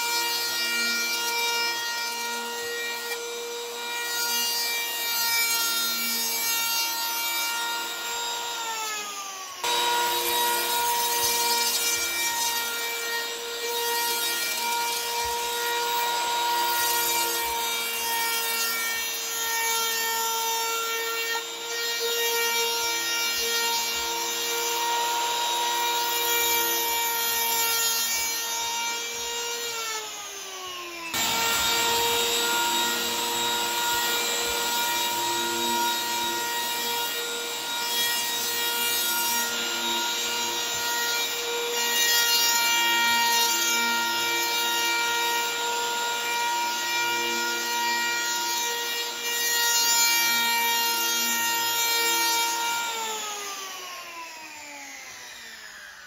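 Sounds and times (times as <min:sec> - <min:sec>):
power planer whining: 0:00.0 - 0:56.0.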